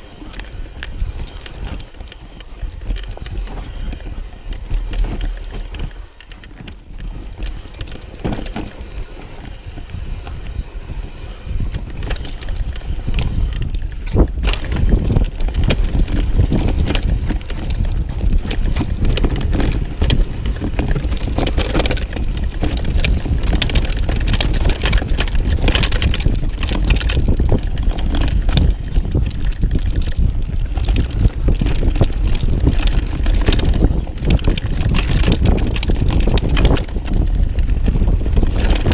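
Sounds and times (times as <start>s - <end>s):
bike frame rattling: 0.0s - 38.9s
tyres on dirt: 0.0s - 38.9s
wind rumbling over microphone: 0.0s - 38.9s.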